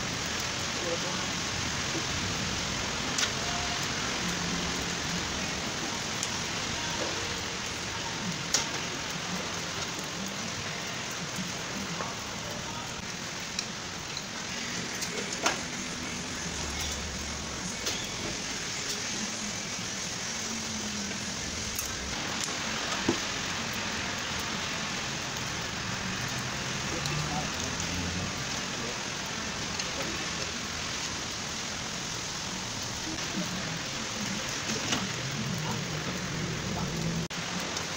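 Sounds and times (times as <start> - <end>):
steady hiss: 0.0 - 37.9.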